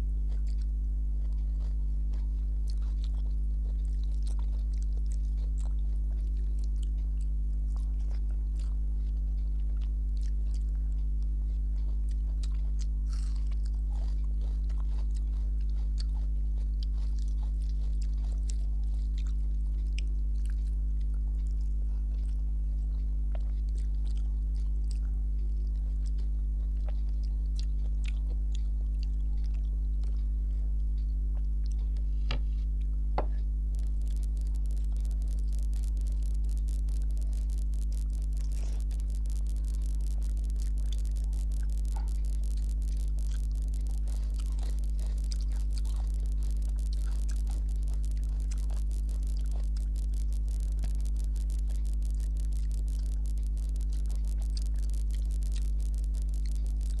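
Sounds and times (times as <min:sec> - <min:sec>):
chewing: 0:00.0 - 0:57.0
low electrical hum: 0:00.0 - 0:57.0
wet clicks of fingers mixing food: 0:00.0 - 0:57.0.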